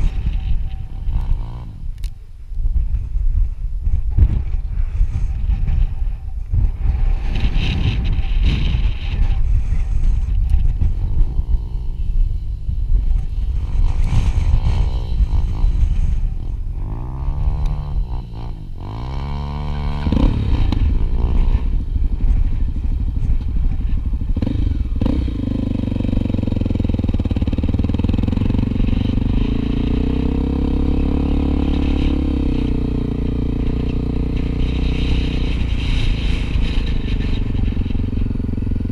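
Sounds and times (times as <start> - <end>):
motorcycle engine running: 0.0 - 38.9
rumble and rattle of ride: 0.0 - 38.9.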